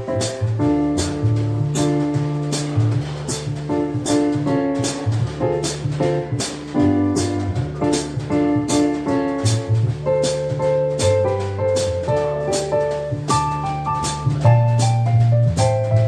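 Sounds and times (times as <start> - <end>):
bass line: 0.0 - 16.0
drum kit keeping time: 0.0 - 16.0
keyboard playing chords: 0.0 - 16.0.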